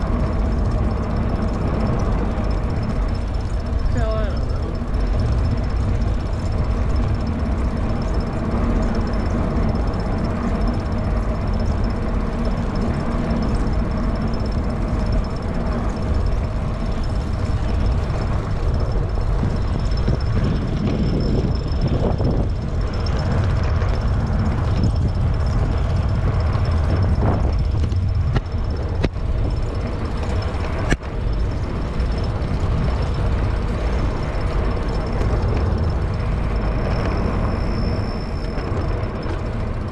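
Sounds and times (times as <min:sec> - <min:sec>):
faint high whine: 0:00.0 - 0:39.9
wind buffeting microphone: 0:00.0 - 0:39.9.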